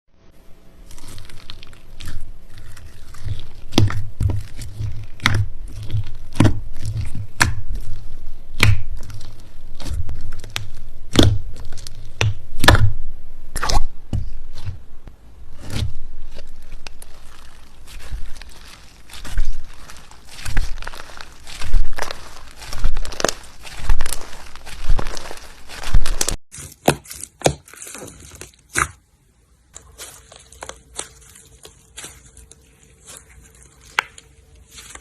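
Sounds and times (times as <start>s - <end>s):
slime squishing: 0.8s - 29.1s, 29.7s - 35.0s.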